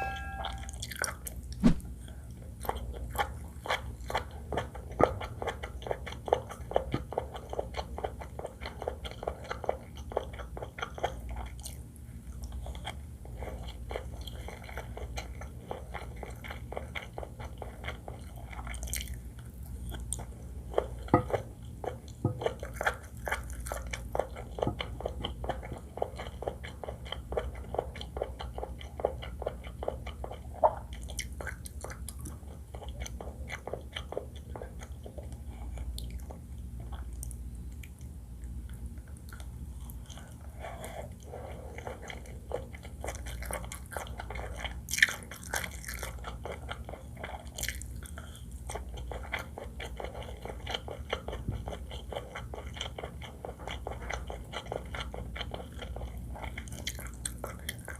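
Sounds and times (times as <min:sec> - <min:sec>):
chewing with wet mouth clicks: 0:00.5 - 0:57.9.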